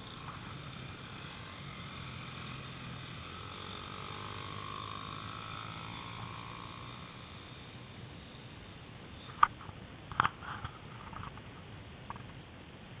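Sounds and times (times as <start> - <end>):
pit bike engine running: 0.0 - 11.4.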